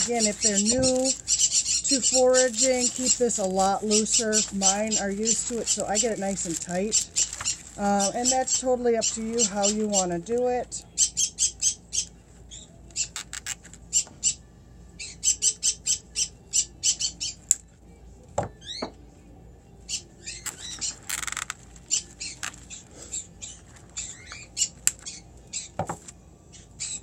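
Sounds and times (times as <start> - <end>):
parrots squawking: 0.0 - 14.4, 15.0 - 17.5, 19.9 - 25.9, 26.5 - 27.0.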